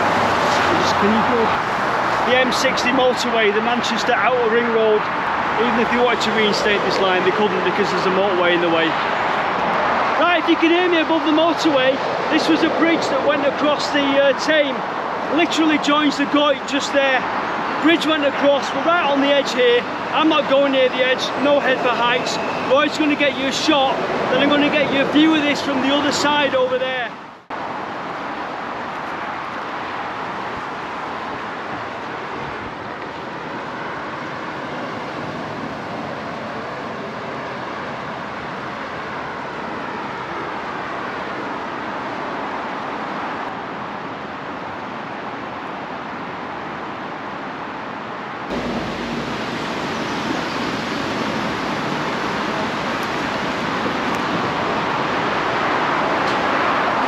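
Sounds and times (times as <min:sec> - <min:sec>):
river water over rapids: 0:00.0 - 0:27.0, 0:27.6 - 0:57.0
heavy motorway traffic roar: 0:00.0 - 0:57.0
vehicles passing: 0:00.0 - 0:57.0.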